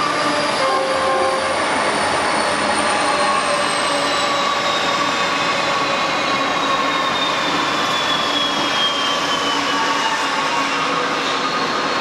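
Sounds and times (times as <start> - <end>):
diesel locomotive engines rumbling: 0.0 - 12.0
rail noise: 0.0 - 12.0.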